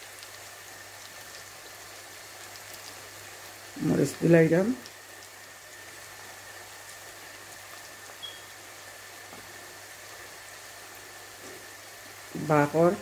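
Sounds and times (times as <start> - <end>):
onions frying in oil: 0.0 - 13.0.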